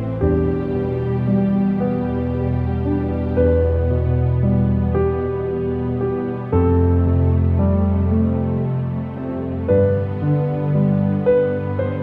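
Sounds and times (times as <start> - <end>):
slow sad music of held chords: 0.0 - 12.0.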